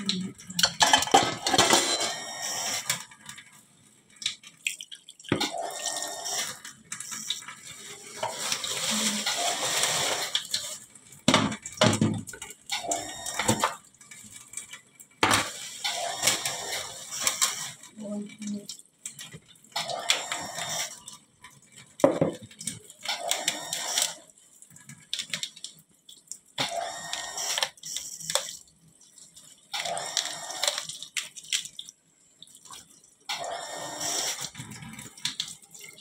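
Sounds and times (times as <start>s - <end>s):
tap water running into metal sink: 4.2s - 36.0s.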